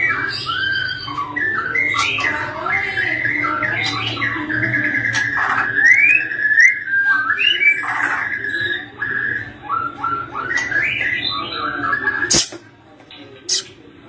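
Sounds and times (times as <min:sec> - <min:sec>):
bird singing whistled notes: 0:00.0 - 0:12.5
bird chirps: 0:00.0 - 0:13.9.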